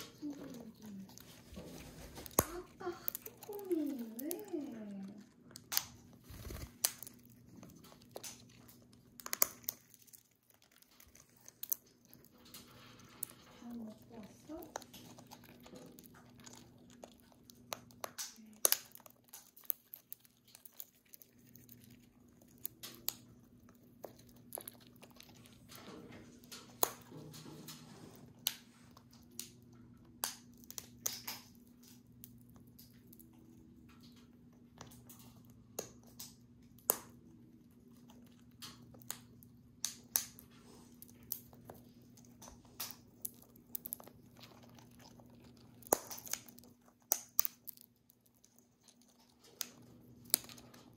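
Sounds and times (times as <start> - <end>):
birds cracking nut shells: 0.0 - 50.9.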